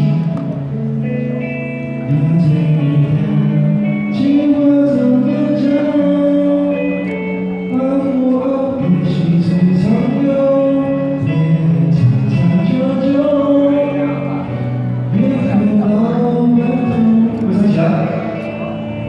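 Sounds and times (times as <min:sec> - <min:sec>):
backing music over loudspeakers: 0:00.0 - 0:19.0
man singing: 0:00.0 - 0:19.0.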